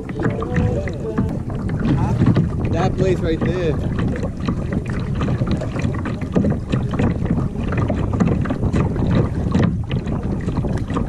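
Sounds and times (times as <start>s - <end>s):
short splashes or knocks: 0.0s - 11.0s
water lapping around kayak: 0.0s - 11.0s
wind buffeting microphone: 0.0s - 11.0s.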